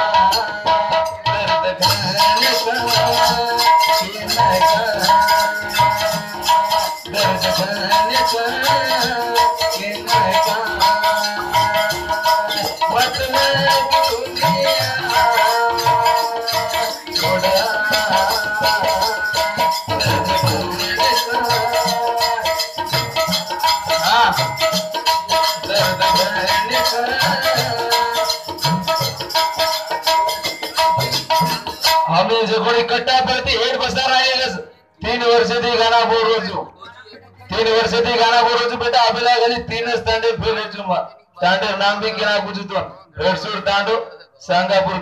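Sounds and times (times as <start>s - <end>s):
fast rattling percussion: 0.0s - 36.4s
harmonium melody: 0.0s - 39.6s.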